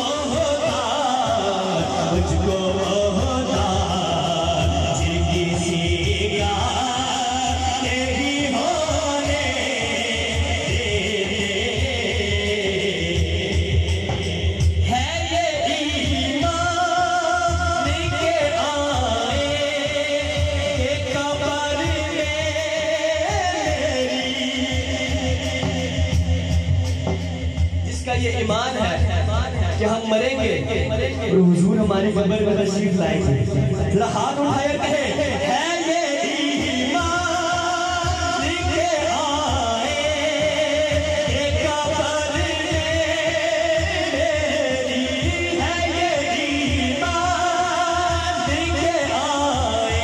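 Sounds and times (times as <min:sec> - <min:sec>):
man singing into a microphone: 0:00.0 - 0:50.0.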